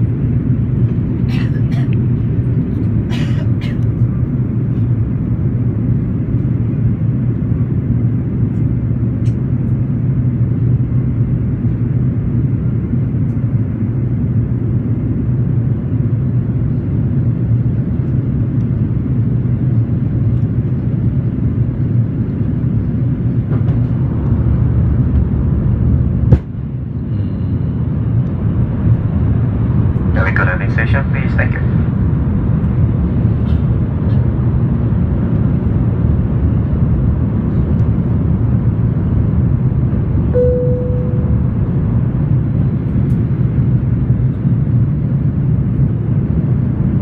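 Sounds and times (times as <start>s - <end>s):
aircraft cabin engine rumble: 0.0s - 47.0s.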